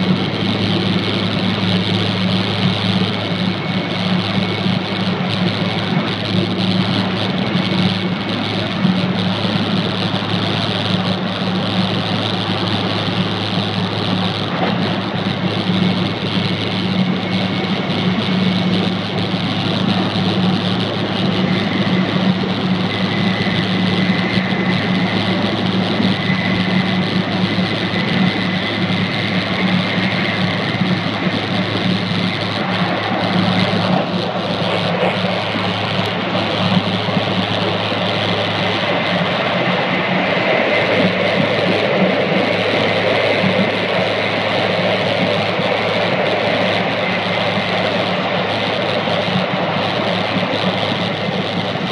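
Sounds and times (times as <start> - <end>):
faint high whine: 0.0 - 51.9
train carriage rushing noise: 0.0 - 51.9.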